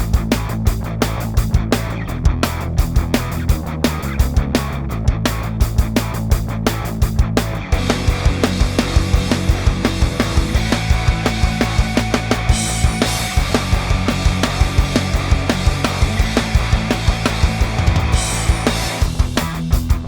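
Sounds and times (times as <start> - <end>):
fast drum beat: 0.0 - 20.0
rock guitar: 0.0 - 20.0.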